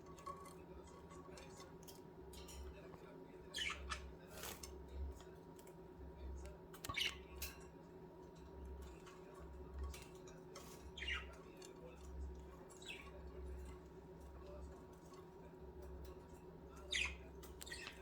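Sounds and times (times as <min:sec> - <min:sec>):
budgerigars chirping and clicking: 0:00.1 - 0:18.0.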